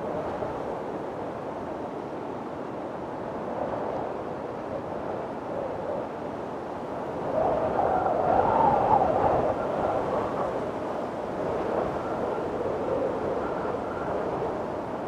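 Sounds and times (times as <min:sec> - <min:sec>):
faint wind whistling: 0:00.0 - 0:15.0.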